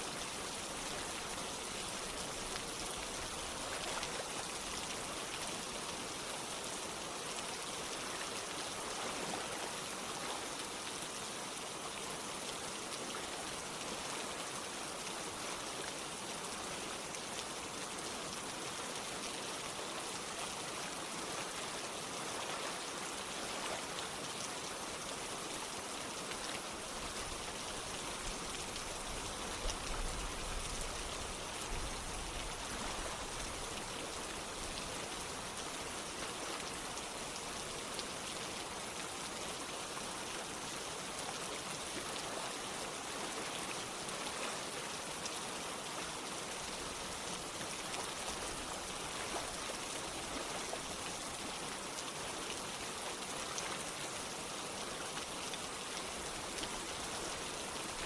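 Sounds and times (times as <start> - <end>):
running water: 0.0 - 58.0
steady rain: 0.0 - 58.0.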